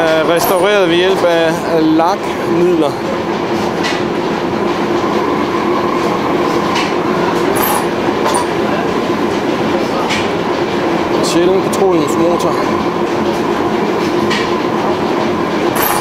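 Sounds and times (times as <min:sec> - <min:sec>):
stationary engines clattering: 0:00.0 - 0:16.0.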